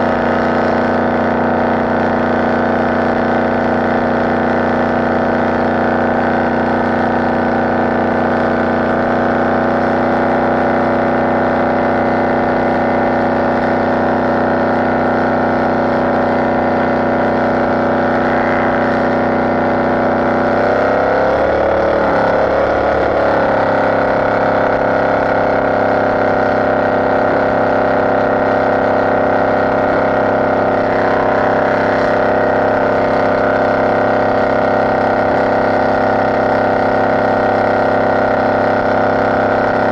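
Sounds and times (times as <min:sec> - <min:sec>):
speedboat engine droning: 0:00.0 - 0:39.9.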